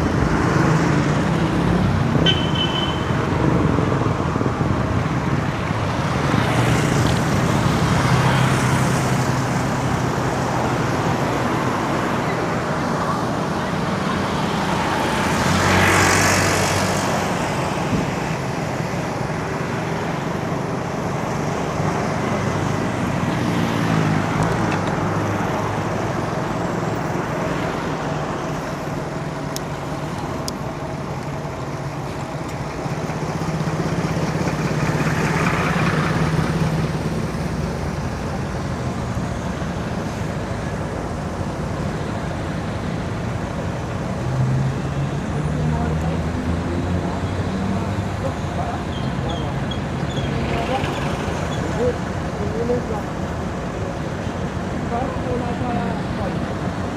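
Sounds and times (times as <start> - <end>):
traffic engine and tyre hum: 0.0 - 56.9
vehicles passing close: 0.0 - 56.9.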